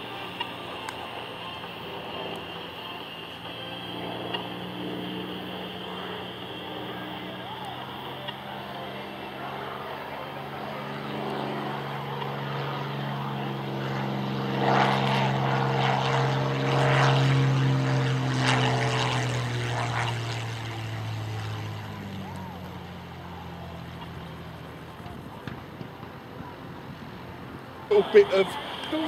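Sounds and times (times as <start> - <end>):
aircraft piston engine flyby: 0.0 - 29.0.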